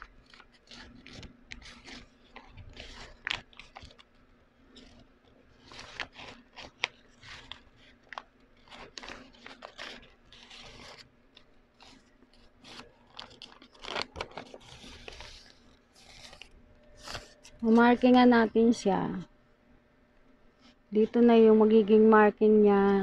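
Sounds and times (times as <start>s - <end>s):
stiff paper crackling: 0.0s - 18.8s.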